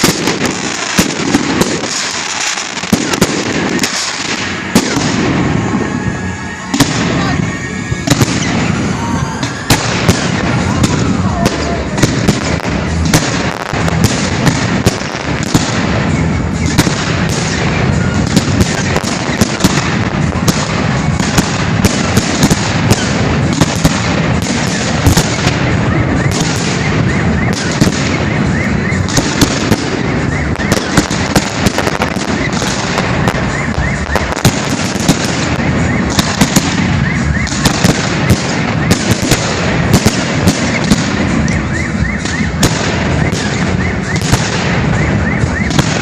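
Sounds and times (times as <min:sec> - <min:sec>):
fireworks bursting: 0:00.0 - 0:46.0.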